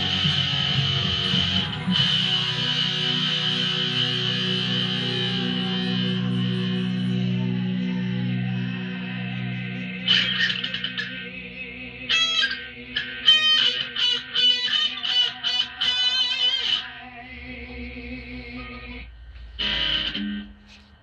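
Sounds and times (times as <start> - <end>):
electric guitar with effects: 0.0 - 21.0.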